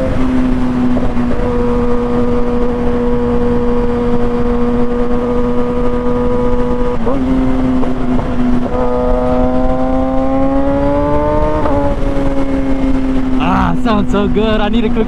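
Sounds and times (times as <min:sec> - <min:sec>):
motorcycle engine at high rpm: 0:00.0 - 0:15.0
wind rush on microphone: 0:00.0 - 0:15.0.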